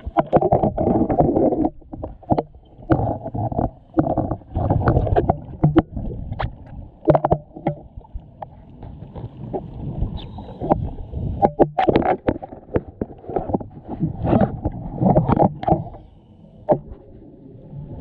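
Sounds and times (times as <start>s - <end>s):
underwater bubbling rumble: 0.0s - 18.0s.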